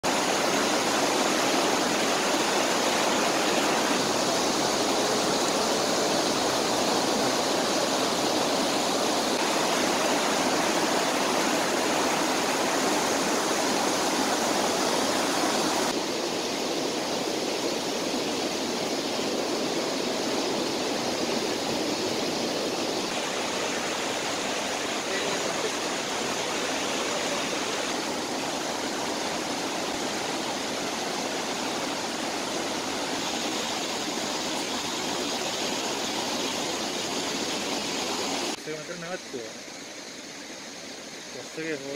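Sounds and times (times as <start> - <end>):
stream rushing over boulders: 0.0 - 41.9.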